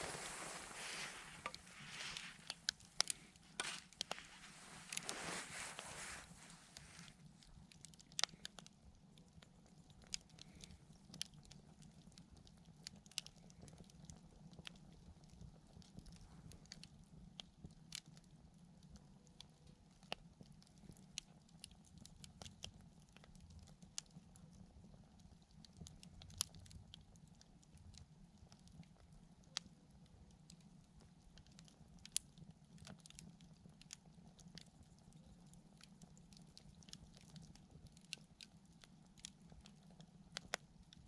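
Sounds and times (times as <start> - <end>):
campfire crackling and popping: 0.0 - 41.0
faint low background hum: 0.0 - 41.0.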